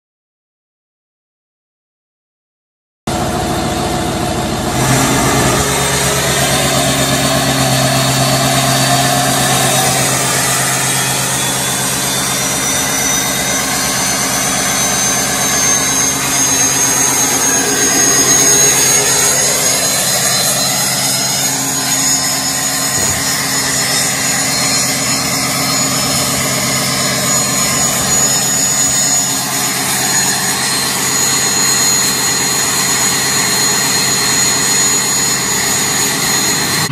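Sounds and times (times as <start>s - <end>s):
diesel engine idling: 3.1s - 36.9s
thin high whistle: 4.7s - 36.9s.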